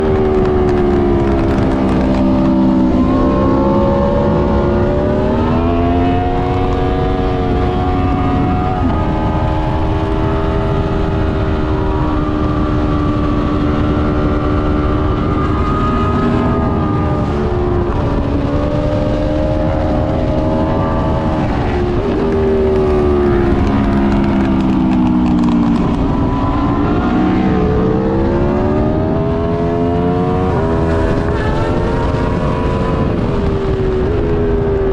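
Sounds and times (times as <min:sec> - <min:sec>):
motorcycle engine revving and shifting: 0:00.0 - 0:34.9
wind rumble on microphone: 0:00.0 - 0:34.9.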